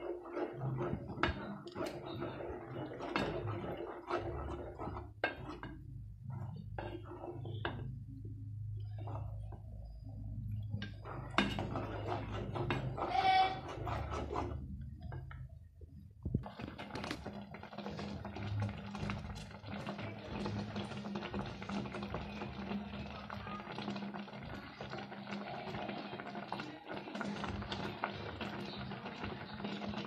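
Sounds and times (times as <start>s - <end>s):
wooden spoon stirring in metal pot: 0.0s - 30.0s.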